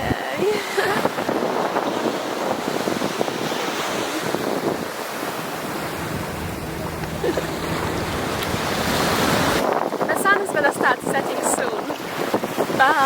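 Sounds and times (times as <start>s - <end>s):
ocean waves washing onto beach: 0.0s - 13.0s
wind buffeting microphone: 0.0s - 13.0s.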